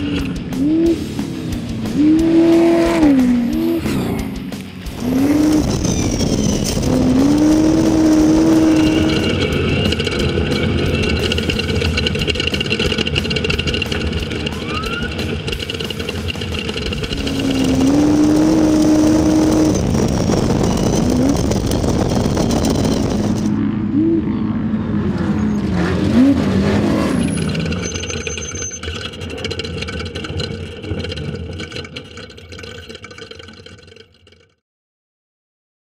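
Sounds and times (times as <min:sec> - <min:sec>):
race car engine revving: 0:00.0 - 0:32.9.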